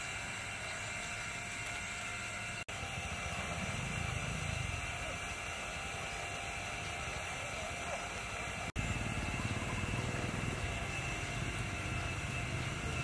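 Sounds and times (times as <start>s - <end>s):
faint hum tones: 0.0s - 13.0s.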